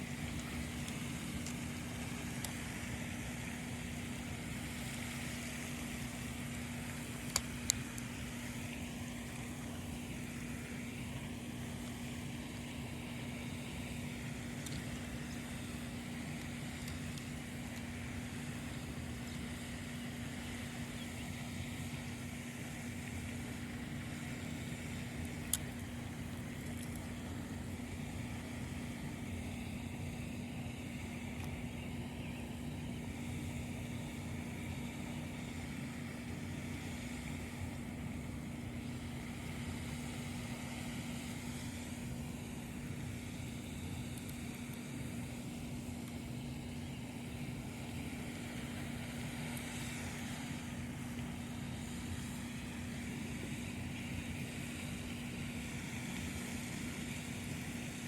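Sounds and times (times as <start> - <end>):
motor droning: 0.0 - 58.0.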